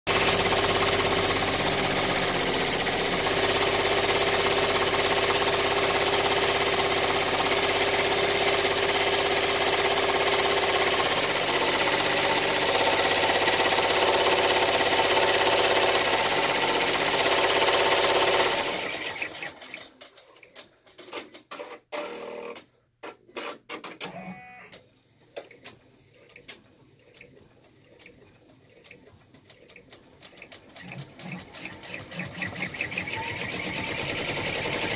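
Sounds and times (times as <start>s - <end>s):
embroidery machine stitching: 0.1s - 24.8s, 25.4s - 34.9s.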